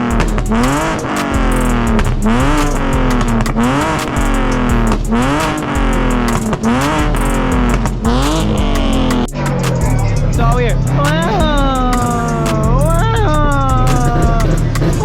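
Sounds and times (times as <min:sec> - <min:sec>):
car engine revving: 0:00.0 - 0:15.0
music playing: 0:00.0 - 0:15.0.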